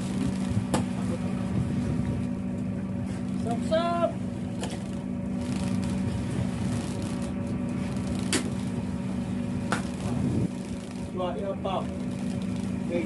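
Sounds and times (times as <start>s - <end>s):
boat machinery droning: 0.0s - 13.0s.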